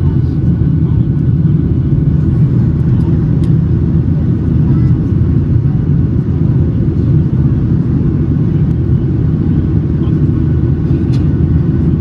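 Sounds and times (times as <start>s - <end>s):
jet engines droning in cabin: 0.0s - 12.0s.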